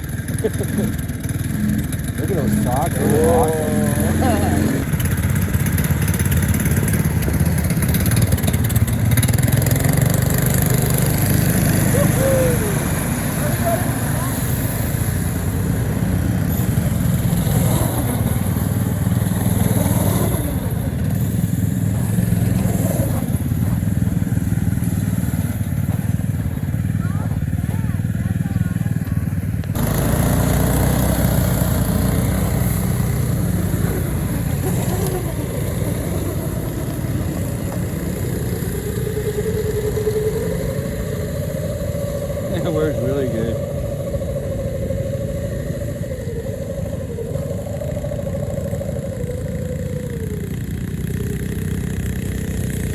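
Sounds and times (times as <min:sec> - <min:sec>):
small gas engine running: 0:00.0 - 0:52.9.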